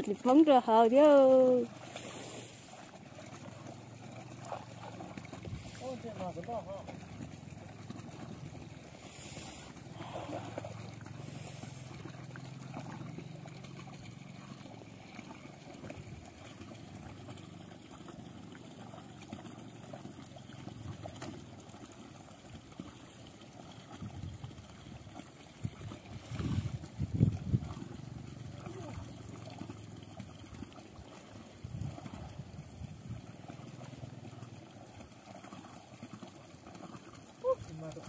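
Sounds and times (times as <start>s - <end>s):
water trickling into pond: 0.0s - 38.0s.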